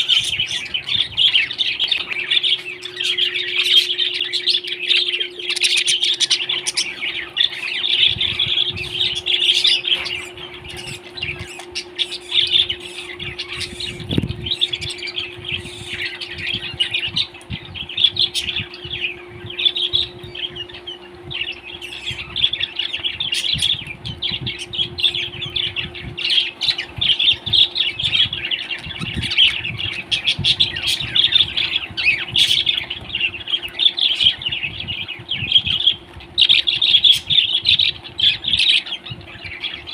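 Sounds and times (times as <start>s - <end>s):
parrot chirping and squawking: 0.0s - 39.9s
steady low hum: 0.0s - 39.9s.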